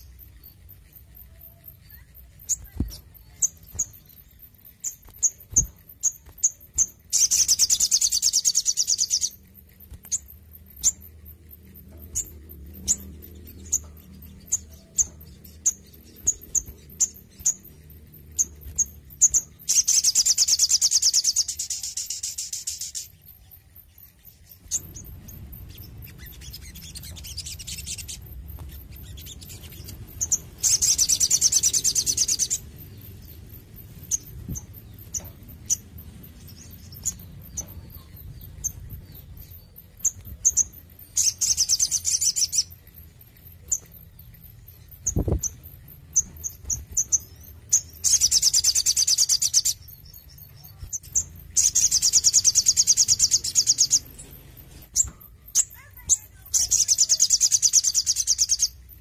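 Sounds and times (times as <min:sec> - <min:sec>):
bird trilling: 0:00.0 - 0:23.1, 0:24.4 - 0:59.0
sharp bird chips: 0:00.0 - 0:59.0.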